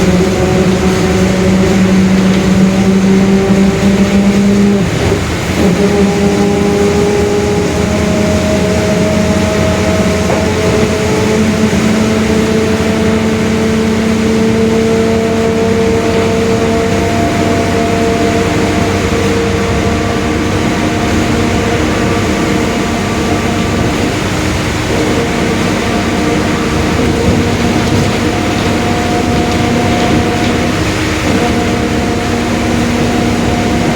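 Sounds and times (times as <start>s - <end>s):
bus diesel engine: 0.0s - 33.9s
differential whine: 0.0s - 33.9s.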